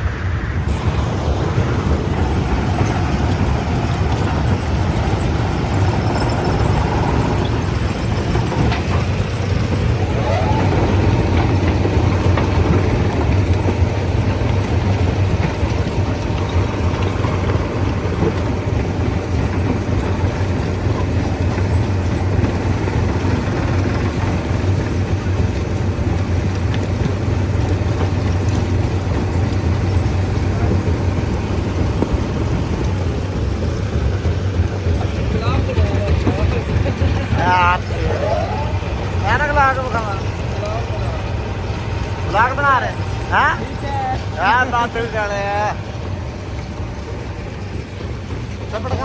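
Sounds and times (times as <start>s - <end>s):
stone crushing machinery droning: 0.7s - 49.0s.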